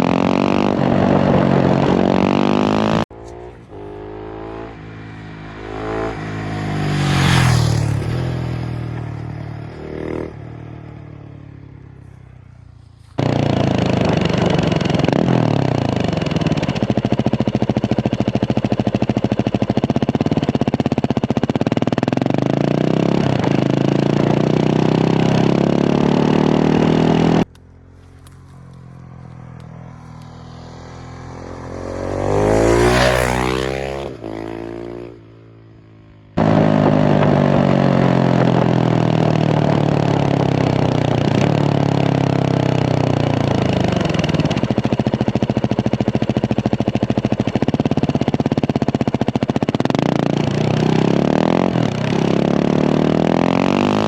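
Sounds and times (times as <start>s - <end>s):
motorcycle engine passing by: 0.0s - 54.0s.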